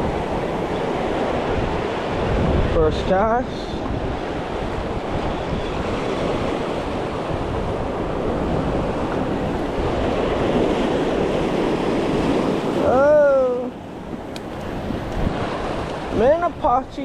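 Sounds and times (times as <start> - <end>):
ocean surf washing on shore: 0.0 - 17.0
wind on microphone: 0.0 - 17.0.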